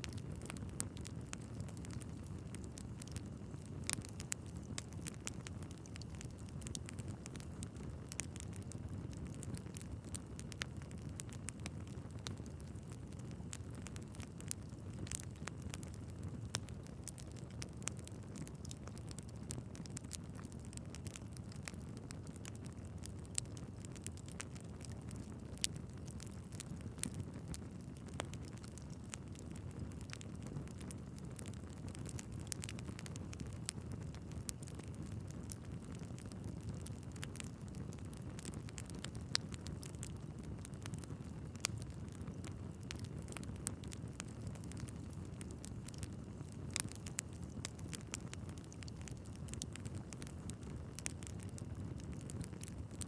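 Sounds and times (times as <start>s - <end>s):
logs crackling and popping: 0.0s - 53.0s
wood fire flames rumbling: 0.0s - 53.0s.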